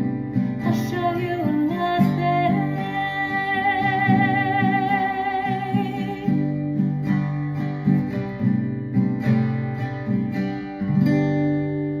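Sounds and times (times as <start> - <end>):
acoustic guitar plucked chords: 0.0 - 12.0.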